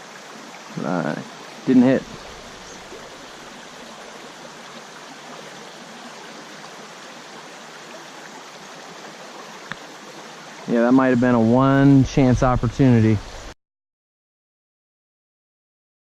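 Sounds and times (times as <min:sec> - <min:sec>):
stream rushing: 0:00.0 - 0:13.6.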